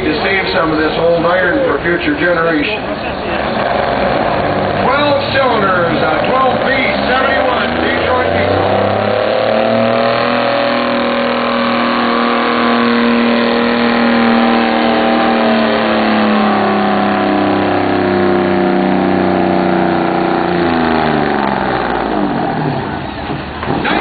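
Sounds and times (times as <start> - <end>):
diesel truck engine under load: 0.0 - 24.0.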